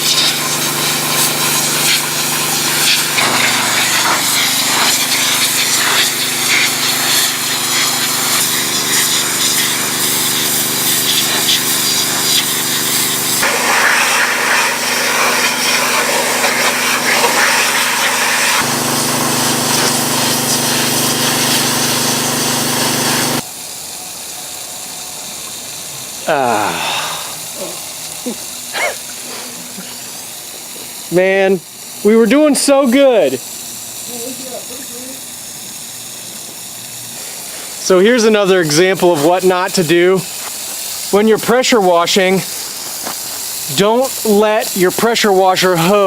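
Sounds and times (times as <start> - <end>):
high-pressure water spray hiss: 0.0 - 46.0
pressure washer engine running: 0.0 - 46.0.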